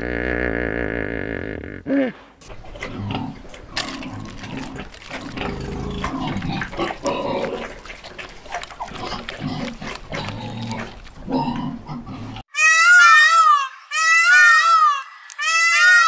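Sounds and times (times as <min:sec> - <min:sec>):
piglets grunting: 0:00.0 - 0:13.1.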